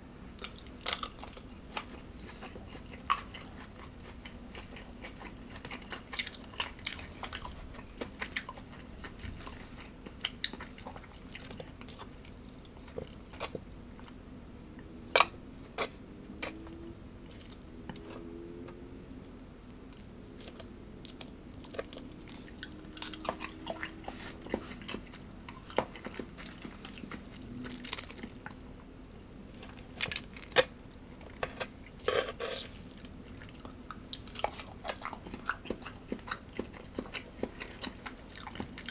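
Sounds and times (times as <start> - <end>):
faint steady hum: 0.0 - 38.9
person chewing crunchy food: 0.4 - 14.2, 15.2 - 18.8, 19.9 - 28.7, 29.5 - 38.9.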